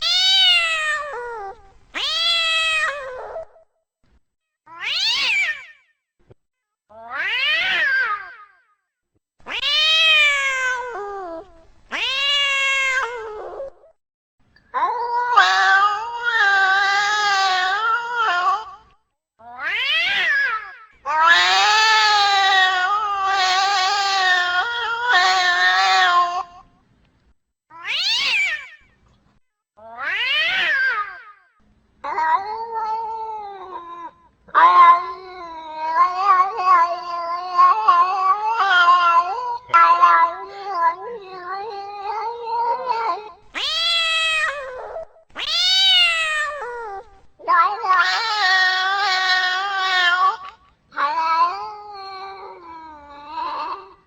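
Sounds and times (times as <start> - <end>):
cat meowing and yowling: 0.0 - 3.7, 4.7 - 5.8, 6.9 - 8.6, 9.5 - 14.0, 14.8 - 26.7, 27.7 - 28.9, 29.8 - 54.0.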